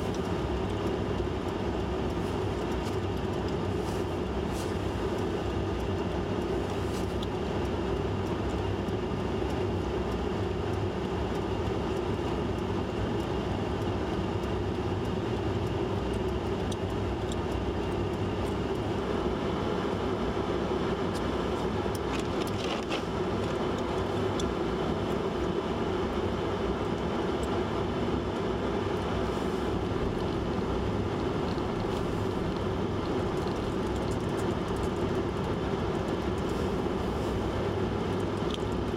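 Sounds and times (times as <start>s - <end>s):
vehicle engine rumble: 0.0s - 38.9s.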